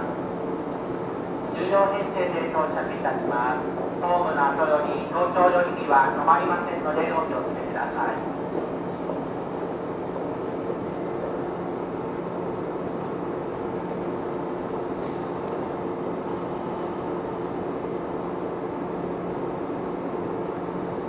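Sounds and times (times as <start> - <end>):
electric train humming: 0.0 - 21.0.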